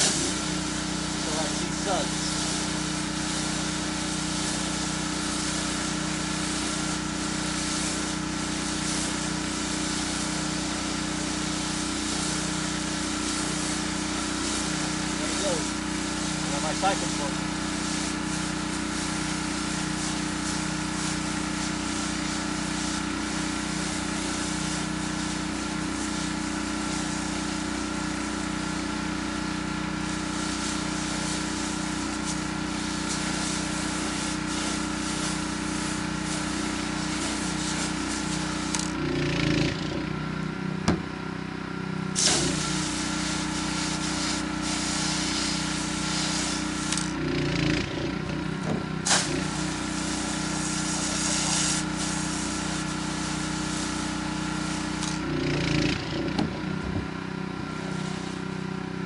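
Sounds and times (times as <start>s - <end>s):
water spray hissing: 0.0s - 39.0s, 42.2s - 47.2s, 49.0s - 55.8s, 57.8s - 58.6s
pressure washer engine running: 0.0s - 59.0s.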